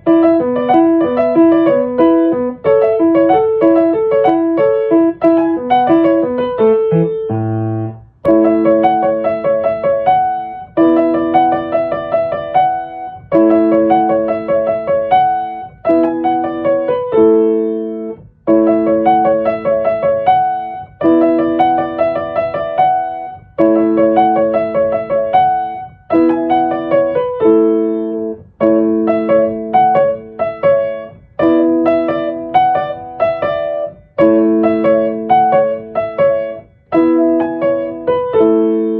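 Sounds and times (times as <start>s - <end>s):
repeating piano phrase: 0.0s - 38.9s.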